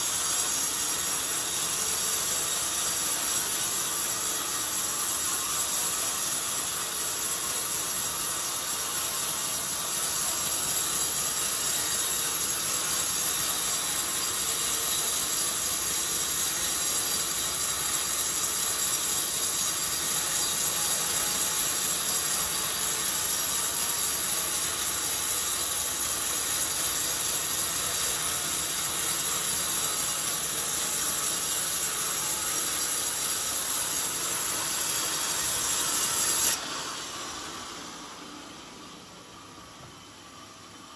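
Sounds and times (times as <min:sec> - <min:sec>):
sawmill saw cutting log: 0:00.0 - 0:39.2.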